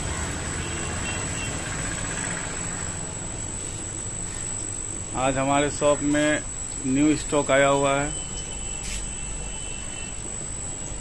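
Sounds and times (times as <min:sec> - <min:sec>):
background hum and hiss: 0:00.0 - 0:11.0
high-pitched whine: 0:00.0 - 0:11.0.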